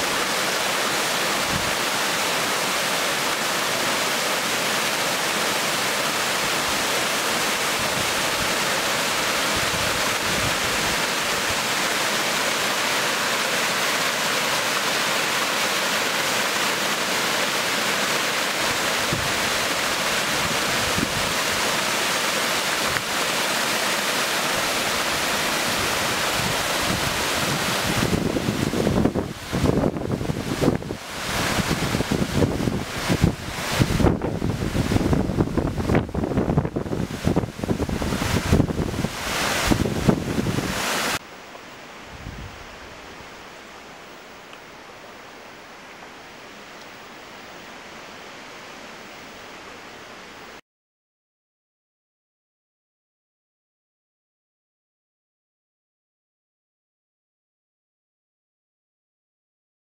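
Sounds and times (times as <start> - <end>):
waterfall rushing: 0.0 - 50.6.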